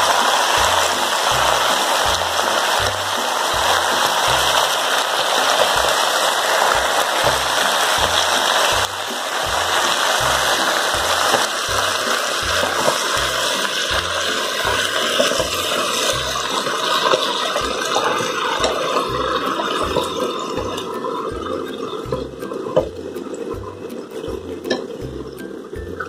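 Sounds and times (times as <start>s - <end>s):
lettuce sizzling in hot fat: 0.0s - 26.0s.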